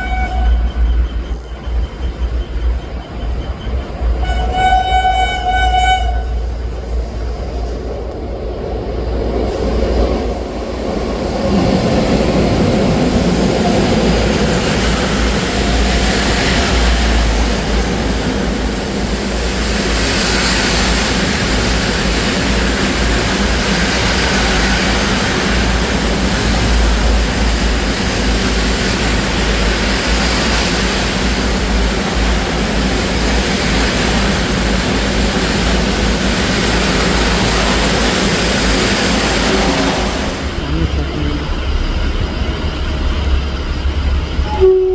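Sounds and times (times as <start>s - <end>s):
train passing at high speed: 0.0s - 44.9s.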